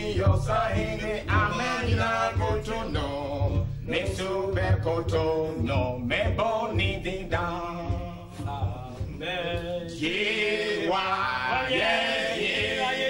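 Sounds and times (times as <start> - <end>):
men singing in harmony: 0.0 - 13.0.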